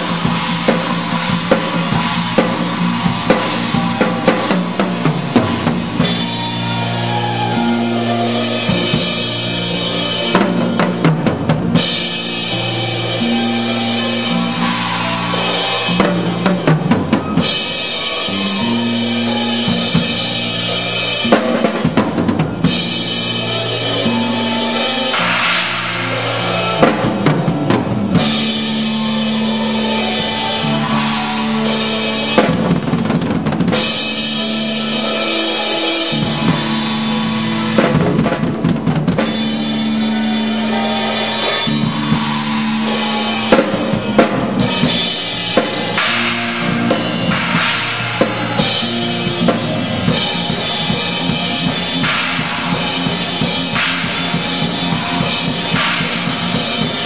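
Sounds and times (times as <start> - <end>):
band holding notes: 0.0 - 57.0
drums and cymbals: 0.0 - 57.0.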